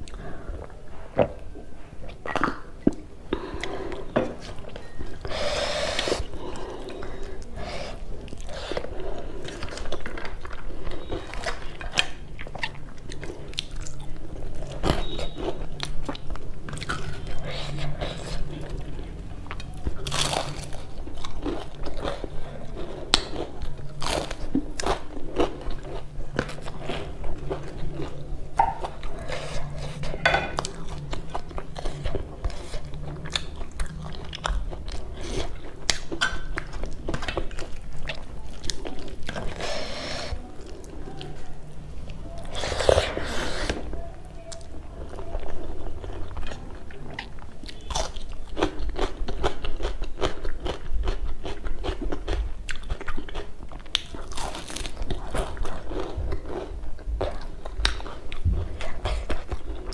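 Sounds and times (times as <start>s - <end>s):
crisp crunching and chewing: 8.2s - 59.9s.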